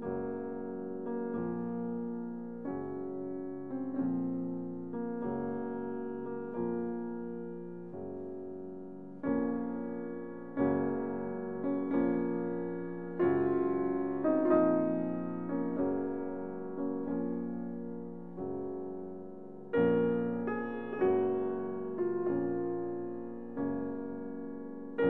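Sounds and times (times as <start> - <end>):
gentle piano chords: 0.0 - 25.0.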